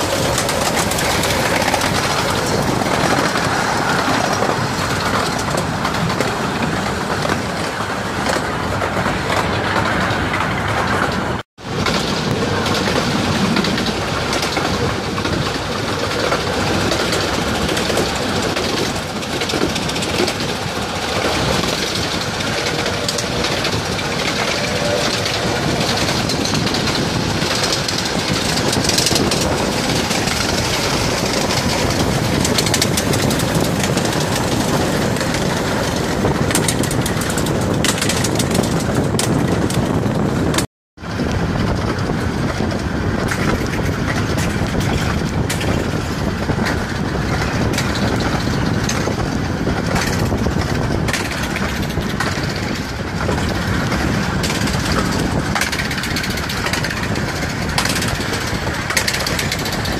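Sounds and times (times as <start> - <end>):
rushing air: 0.0 - 59.9
steam locomotives running: 0.0 - 59.9
train wheels clattering on rails: 0.0 - 59.9.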